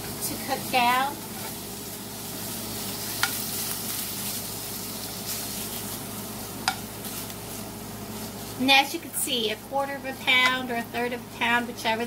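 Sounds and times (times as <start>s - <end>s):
beef sizzling in butter: 0.0s - 11.0s.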